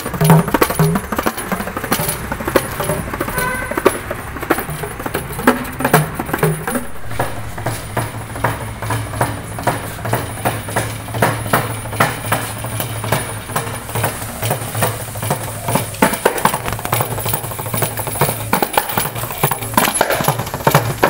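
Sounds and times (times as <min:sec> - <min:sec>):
steady low hum: 0:00.0 - 0:18.5
frame drum with jingles: 0:00.0 - 0:21.0.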